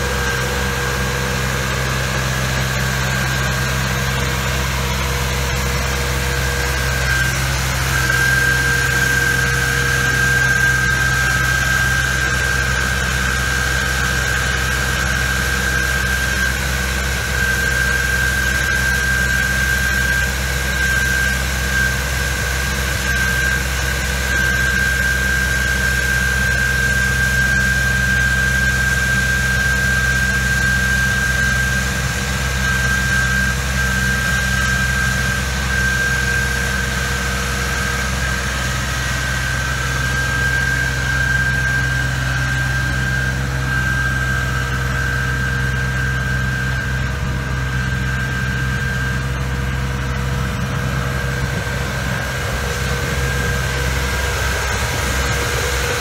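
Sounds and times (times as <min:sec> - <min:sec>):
constant high whine: 0:00.0 - 0:56.0
engine hum: 0:00.0 - 0:56.0.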